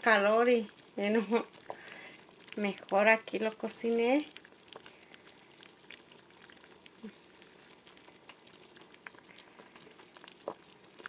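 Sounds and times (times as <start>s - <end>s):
soup bubbling in a pot: 0.0s - 11.0s.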